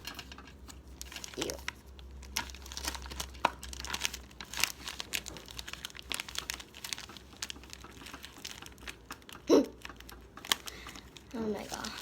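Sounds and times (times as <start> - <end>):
slime squishing and crackling: 0.0 - 12.0.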